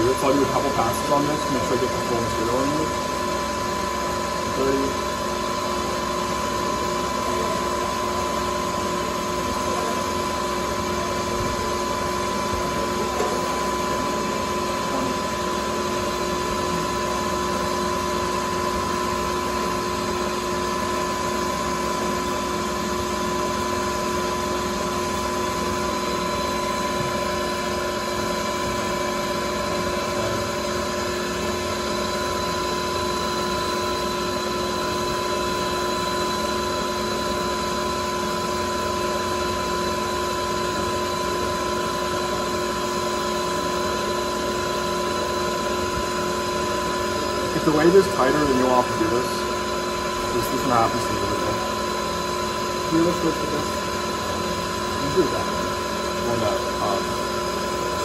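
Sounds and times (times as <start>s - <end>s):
metal lathe whine: 0.0s - 58.0s.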